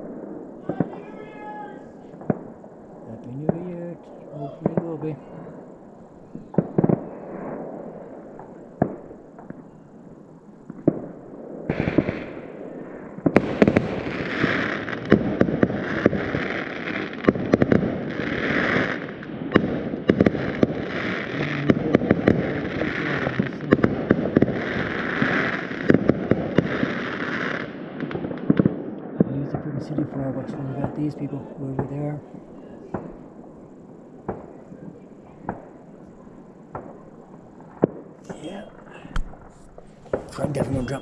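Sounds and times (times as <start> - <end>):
distant fireworks crackling and banging: 0.0 - 41.0.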